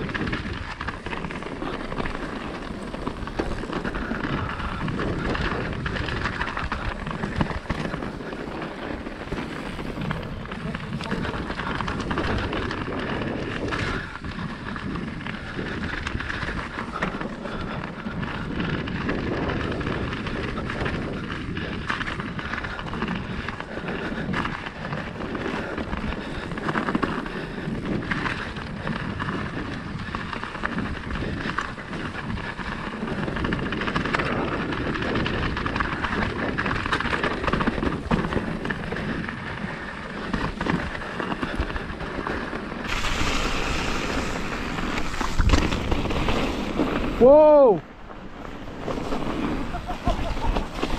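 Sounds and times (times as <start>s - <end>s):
bike knocking and rattling: 0.0s - 50.9s
bike tyres rumbling over dirt: 0.0s - 50.9s.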